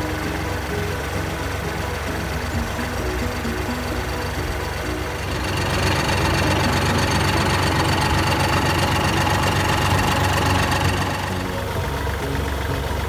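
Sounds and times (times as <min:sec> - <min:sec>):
high-pitched whine: 0:00.0 - 0:13.0
tractor diesel engine running: 0:00.0 - 0:13.0.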